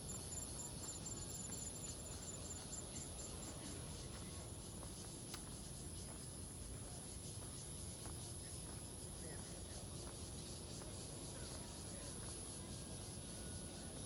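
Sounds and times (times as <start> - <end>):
high-pitched insect trill: 0.0 - 14.0
insect chirping: 0.0 - 14.0.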